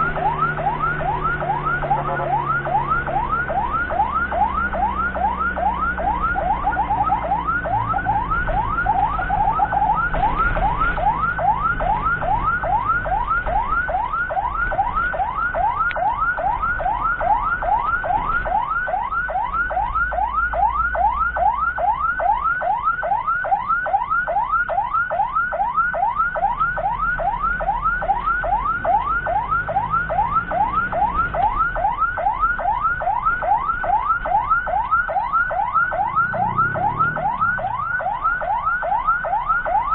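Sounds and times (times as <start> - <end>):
ambulance siren: 0.0 - 39.9.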